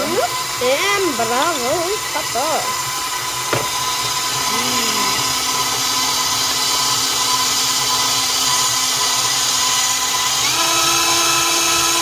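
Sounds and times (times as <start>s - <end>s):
electric mixer motor whine: 0.0s - 12.0s.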